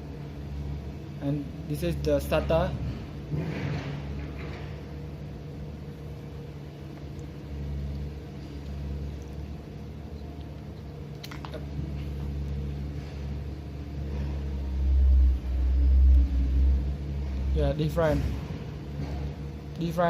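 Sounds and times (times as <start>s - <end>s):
low rumble: 0.0s - 19.8s.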